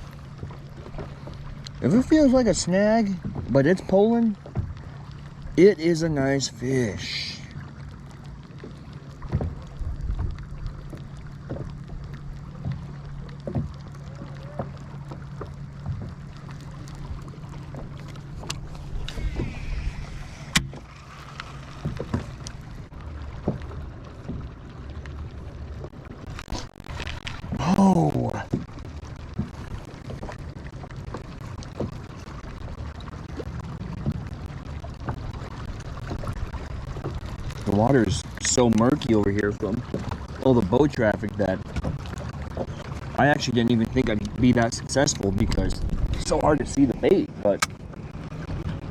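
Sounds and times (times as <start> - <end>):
low steady rumble: 0.0 - 48.9
steady low hum: 0.0 - 48.9
water moving against hull: 0.0 - 48.9.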